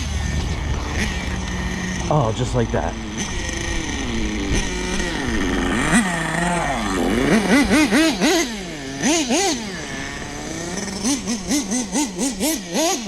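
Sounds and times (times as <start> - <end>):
rc truck nitro engine revving: 0.0 - 13.0.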